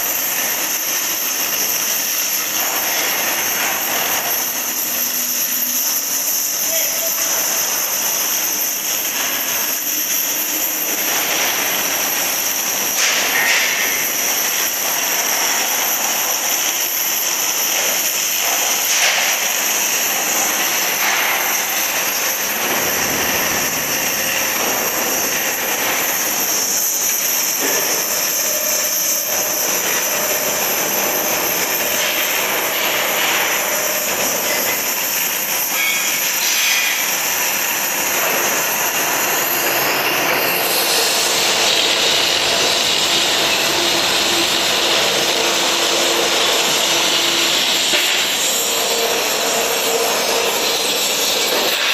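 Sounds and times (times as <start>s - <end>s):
cutting torch hissing: 0.0s - 51.9s.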